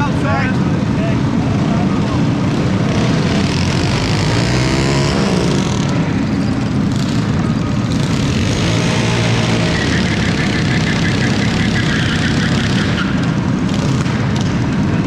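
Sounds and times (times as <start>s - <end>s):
mini bike engines running: 0.0s - 15.0s
engine revving: 1.2s - 15.0s.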